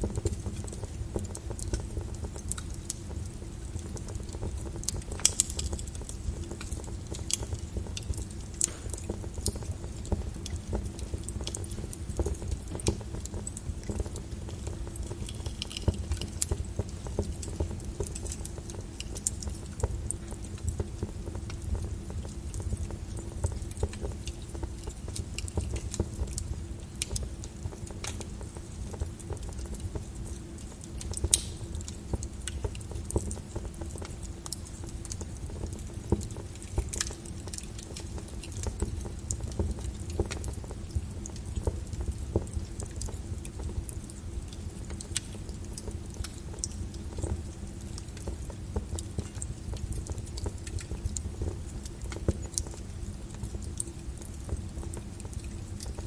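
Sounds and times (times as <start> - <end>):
rain patter: 0.0 - 56.0
wood fire crackling: 0.0 - 56.0.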